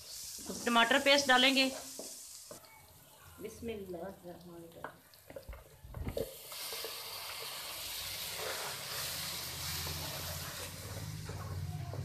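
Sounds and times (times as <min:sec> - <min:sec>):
tomato paste sizzling in oil: 0:00.0 - 0:12.0.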